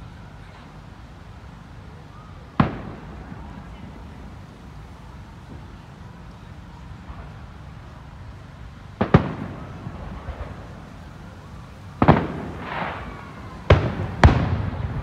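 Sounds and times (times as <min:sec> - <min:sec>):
firework crackling hiss: 0:00.0 - 0:15.0.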